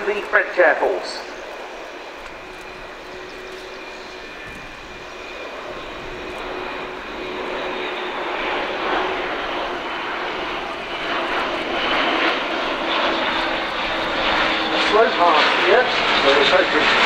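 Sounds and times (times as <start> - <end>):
turboprop plane passing: 0.0 - 17.0.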